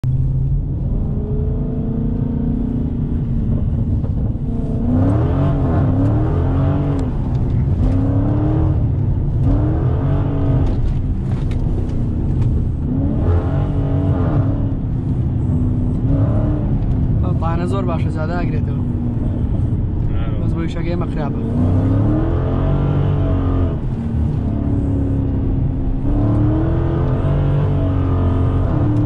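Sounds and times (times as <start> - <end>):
car engine revving: 0.1 - 29.0.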